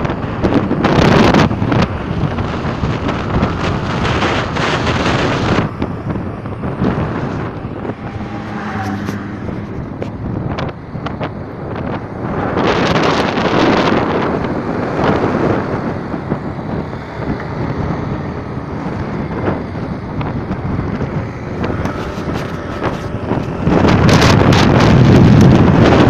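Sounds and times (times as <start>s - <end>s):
car road noise: 0.0s - 26.0s
wind buffeting microphone: 0.0s - 26.0s.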